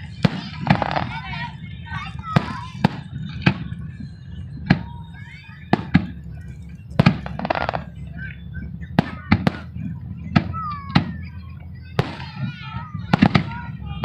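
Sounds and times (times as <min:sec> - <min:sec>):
fireworks exploding with sharp bangs: 0:00.0 - 0:14.0
low rumble: 0:00.0 - 0:14.0.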